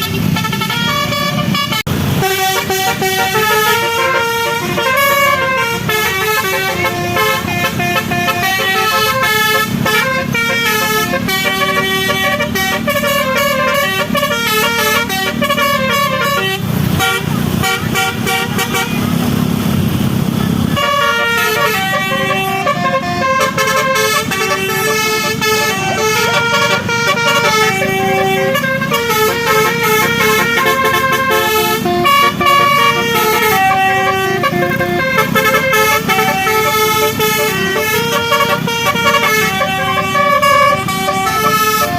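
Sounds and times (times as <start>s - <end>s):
multi-tone bus horn tune: 0.0s - 19.8s, 20.5s - 41.9s
bus engine running: 0.0s - 41.9s.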